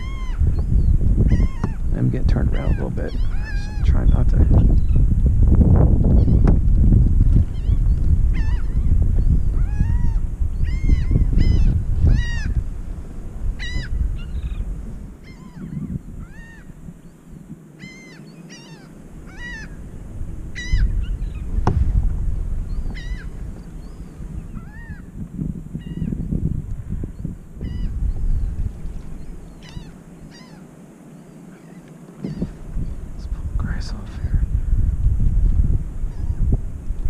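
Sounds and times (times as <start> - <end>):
birds calling: 0.0 - 5.1, 6.1 - 6.6, 7.4 - 34.2
wind buffeting microphone: 0.0 - 37.0.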